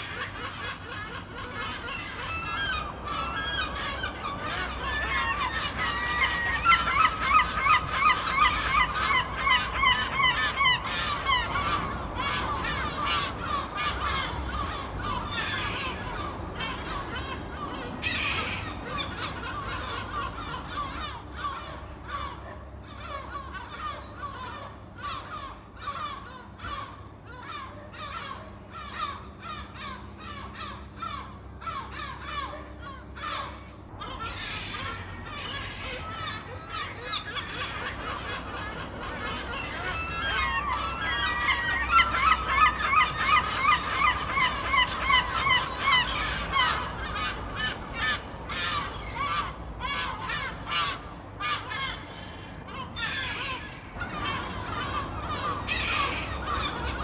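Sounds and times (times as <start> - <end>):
seagulls squawking: 0.0 - 57.0.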